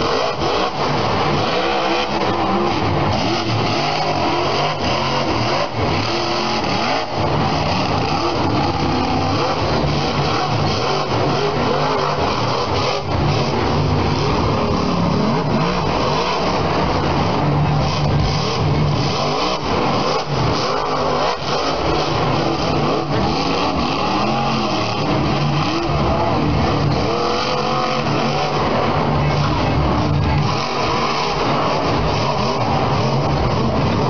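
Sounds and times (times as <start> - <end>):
truck engine revving hard: 0.0 - 34.0.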